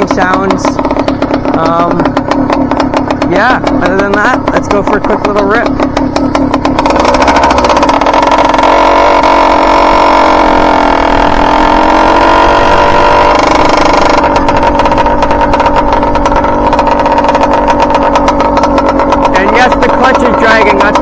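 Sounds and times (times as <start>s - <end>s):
small motorbike engine running: 0.0s - 21.0s.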